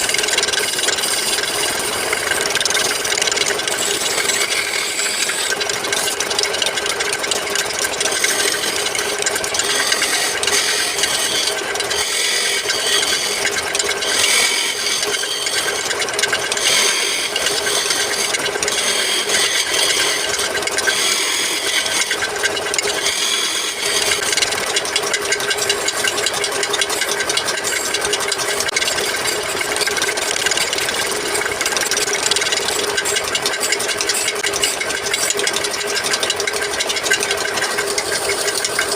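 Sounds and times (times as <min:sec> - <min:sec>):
power tool working wood: 0:00.0 - 0:38.9.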